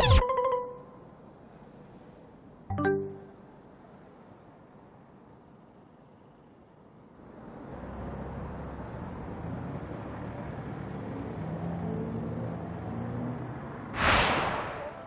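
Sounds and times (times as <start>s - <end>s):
cars driving along street: 0.6s - 15.0s.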